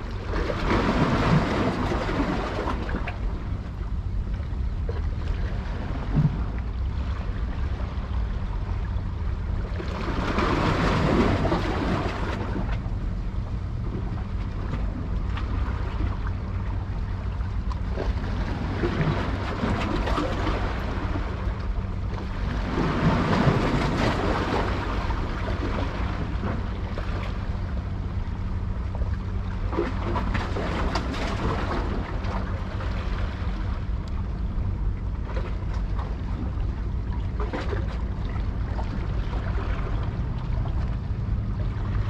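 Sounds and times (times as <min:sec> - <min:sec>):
low rumble: 0:00.0 - 0:42.0
waves washing: 0:00.0 - 0:42.0.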